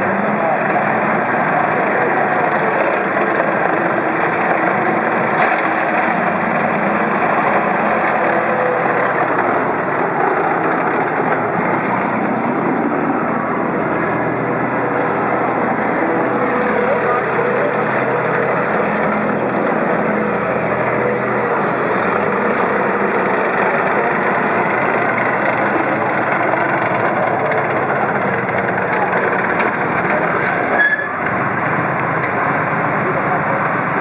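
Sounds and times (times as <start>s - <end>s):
tracked vehicle engine running: 0.0s - 34.0s.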